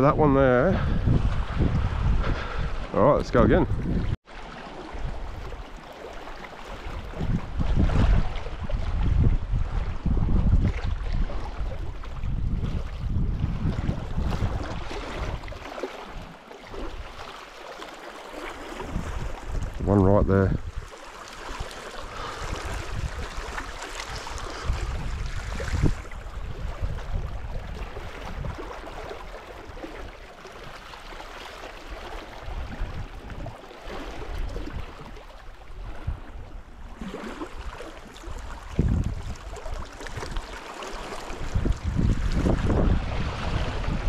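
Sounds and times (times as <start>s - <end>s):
wind on microphone: 0.0s - 4.2s, 6.7s - 17.2s, 18.6s - 30.9s, 31.9s - 44.0s
waves lapping on rocks: 2.8s - 9.3s, 10.4s - 44.0s.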